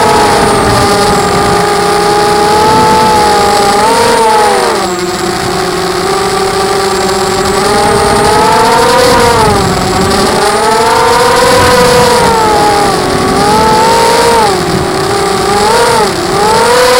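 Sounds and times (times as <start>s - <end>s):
quadcopter motors whining: 0.0s - 16.9s.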